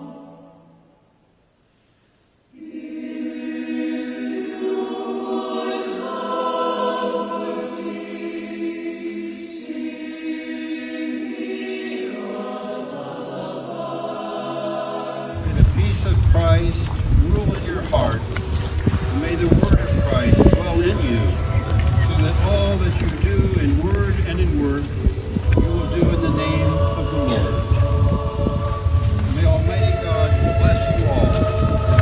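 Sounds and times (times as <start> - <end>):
choir singing sustained notes: 0.0 - 1.3, 2.5 - 32.0
music: 2.6 - 32.0.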